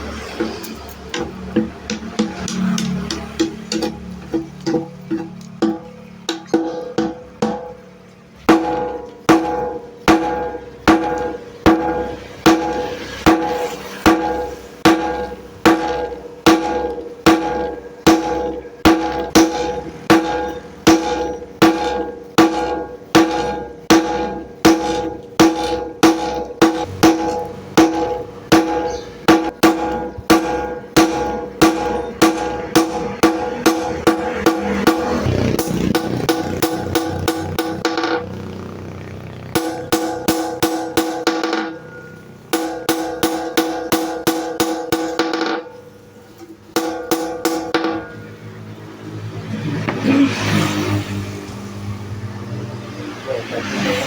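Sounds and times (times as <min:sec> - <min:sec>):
hammer striking steel on anvil: 0:00.1 - 0:38.4, 0:39.4 - 0:49.1.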